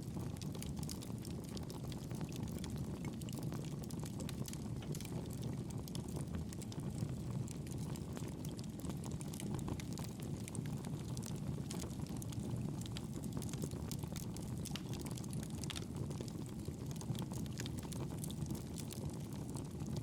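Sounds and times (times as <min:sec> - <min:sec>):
campfire crackling: 0:00.1 - 0:20.0.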